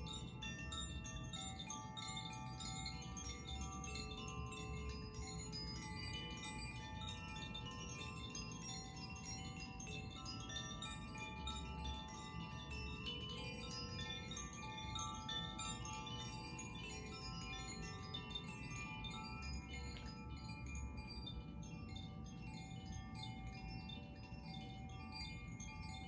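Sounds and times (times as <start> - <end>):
wind chimes ringing: 0.0 - 26.0.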